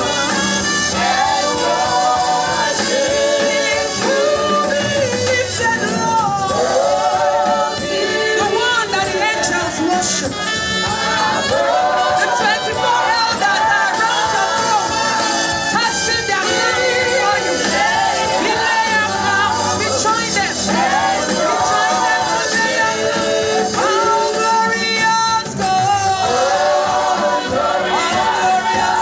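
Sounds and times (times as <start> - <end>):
musical accompaniment: 0.0 - 29.0
voices singing gospel: 0.0 - 29.0.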